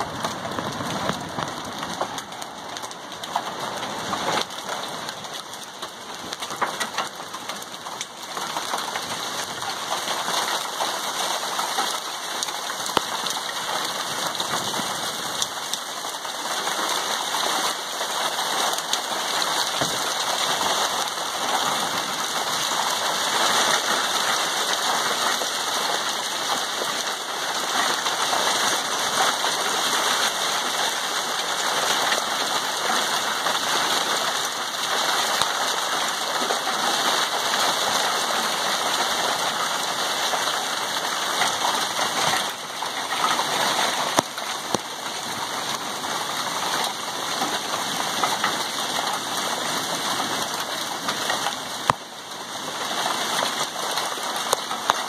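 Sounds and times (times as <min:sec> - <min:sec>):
hailstones pelting concrete: 0:00.0 - 0:55.0.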